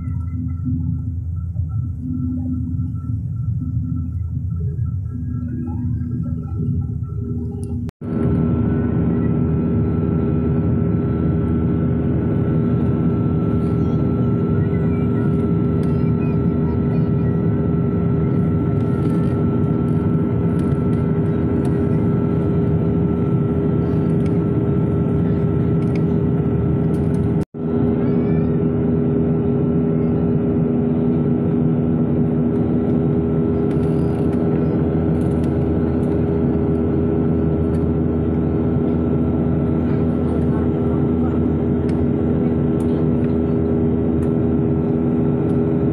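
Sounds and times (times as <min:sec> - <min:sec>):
jet engine drone in cabin: 0:00.0 - 0:45.9
steady hums: 0:00.0 - 0:45.9.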